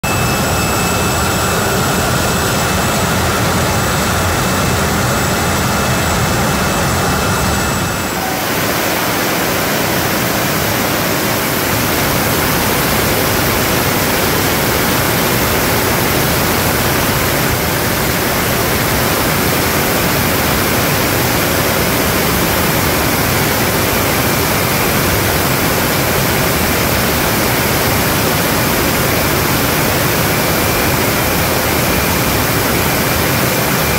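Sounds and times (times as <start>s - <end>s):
high turbine whine: 0.0s - 33.9s
jet engine roaring: 0.0s - 33.9s.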